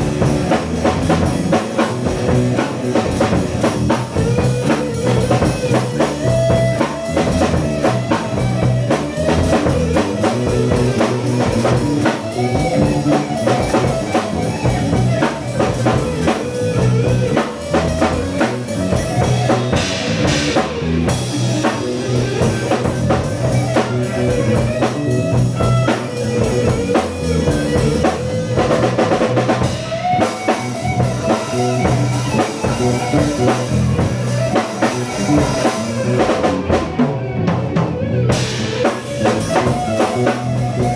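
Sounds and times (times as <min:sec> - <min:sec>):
drum kit steady beat: 0:00.0 - 0:40.9
electric guitar sustained notes: 0:00.0 - 0:40.9.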